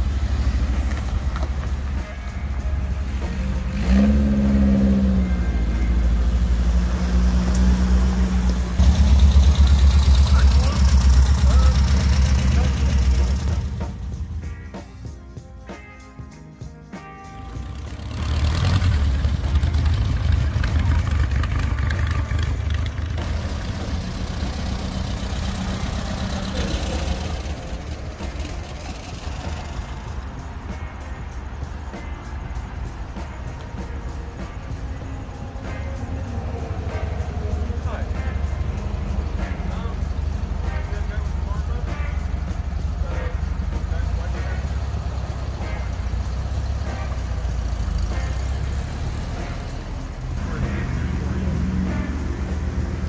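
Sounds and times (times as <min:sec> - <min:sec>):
dune buggy engine rumble: 0:00.0 - 0:15.1, 0:17.4 - 0:53.0.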